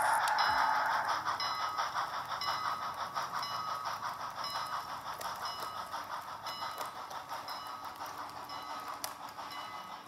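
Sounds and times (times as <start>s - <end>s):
toy train cars rolling on track: 0.0s - 10.0s
wheels clicking over rail joints: 1.4s - 10.0s.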